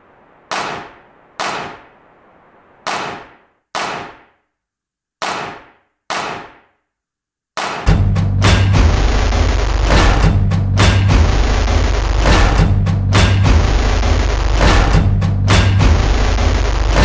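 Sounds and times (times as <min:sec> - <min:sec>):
sharp bangs: 0:00.3 - 0:02.0, 0:02.8 - 0:04.5, 0:05.2 - 0:06.8, 0:07.6 - 0:17.0.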